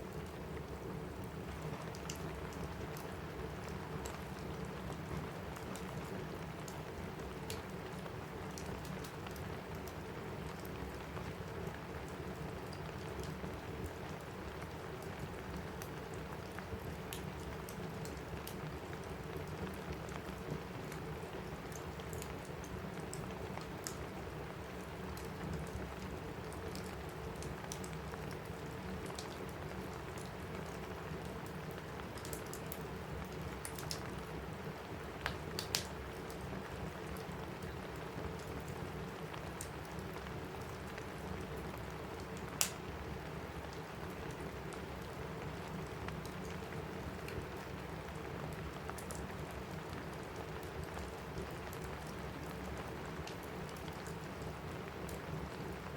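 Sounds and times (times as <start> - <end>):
rain on a roof: 0.0 - 55.9
wood fire crackling: 0.0 - 55.9.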